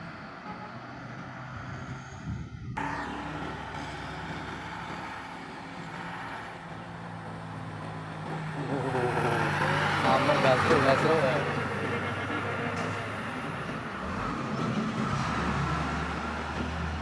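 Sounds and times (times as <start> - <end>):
heavy truck engine droning: 0.0 - 17.0.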